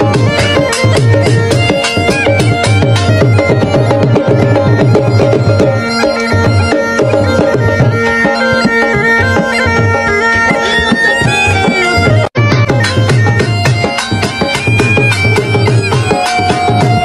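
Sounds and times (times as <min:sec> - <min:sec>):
steady drum beat: 0:00.0 - 0:10.0, 0:10.6 - 0:17.0
melody of held notes: 0:00.0 - 0:17.0.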